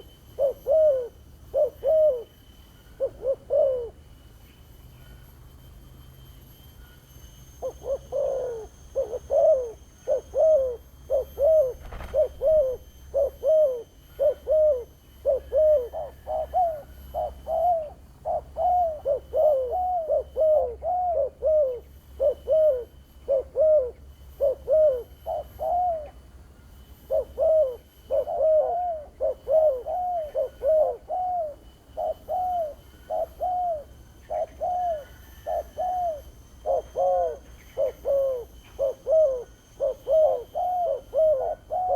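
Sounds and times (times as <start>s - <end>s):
dove cooing: 0.0s - 4.1s, 7.6s - 26.2s, 26.9s - 41.9s.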